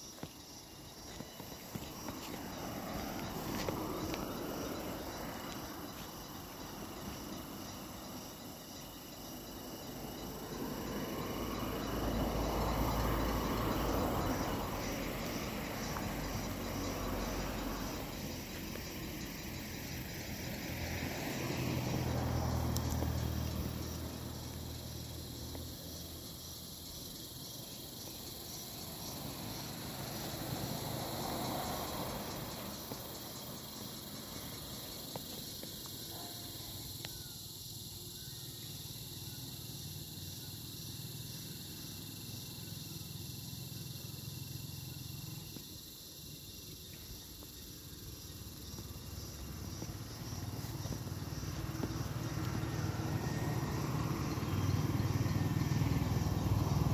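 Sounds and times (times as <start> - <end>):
cicadas buzzing: 0.0 - 56.9.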